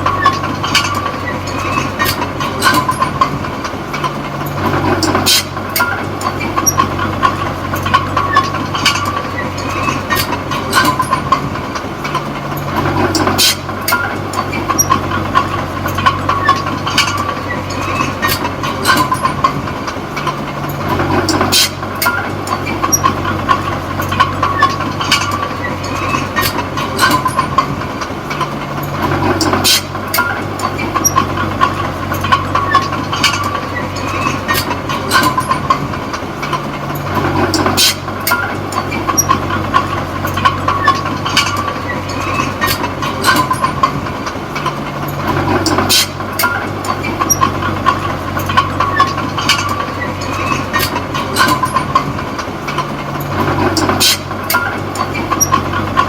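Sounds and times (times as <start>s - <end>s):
bulldozer diesel engine under load: 0.0s - 56.0s
steel tracks clanking: 0.0s - 56.0s.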